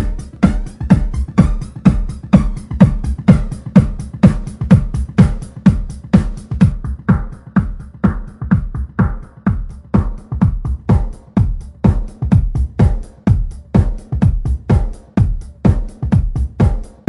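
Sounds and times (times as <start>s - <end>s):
electronic dance music: 0.0s - 17.0s
heavy kick drum beat: 0.0s - 17.0s.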